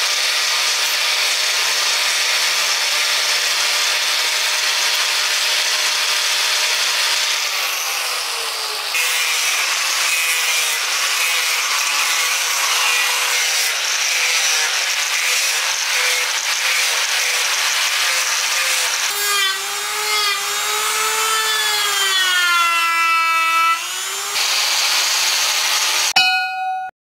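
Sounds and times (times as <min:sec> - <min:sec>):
angle grinder rasping wood: 0:00.0 - 0:26.2.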